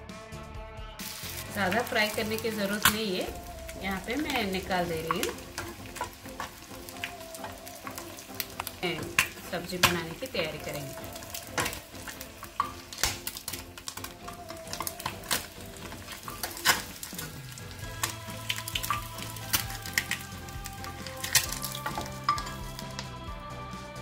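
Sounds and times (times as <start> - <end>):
background music with held tones: 0.0 - 24.0
spatula scraping on pan: 1.0 - 23.0
eggs sizzling in hot oil: 1.0 - 24.0.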